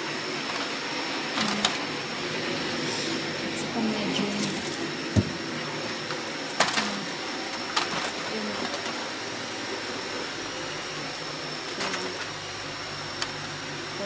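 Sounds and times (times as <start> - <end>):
household hum and hiss: 0.0 - 14.0.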